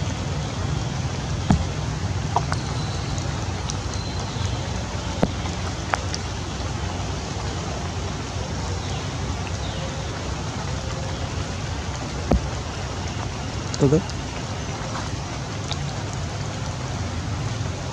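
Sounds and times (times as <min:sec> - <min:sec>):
rain falling on stone: 0:00.0 - 0:17.9.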